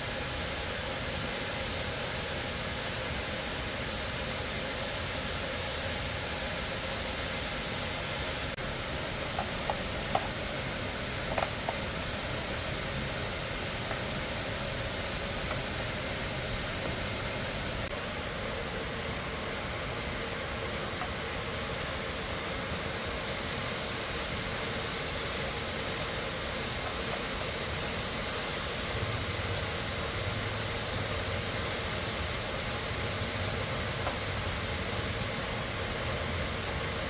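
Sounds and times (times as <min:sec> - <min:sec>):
machine hiss: 0:00.0 - 0:37.0.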